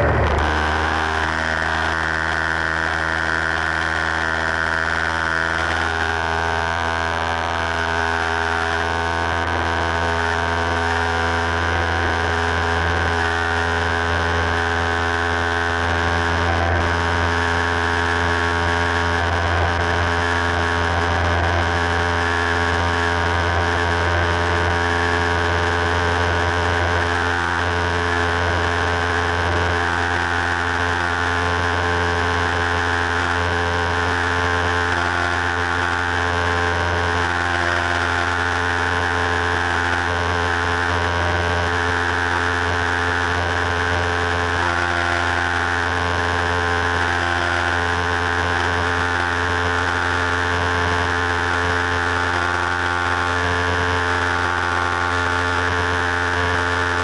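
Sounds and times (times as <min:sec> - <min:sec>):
airplane engine and propeller running: 0:00.0 - 0:57.0.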